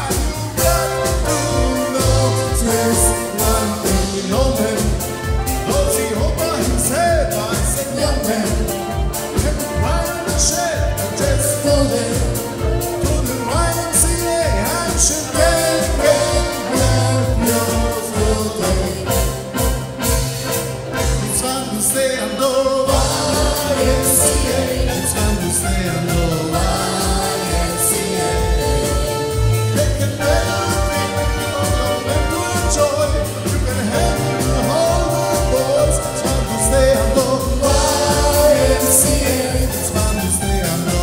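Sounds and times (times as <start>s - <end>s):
upbeat dance song with singing: 0.0s - 19.6s, 21.0s - 41.0s.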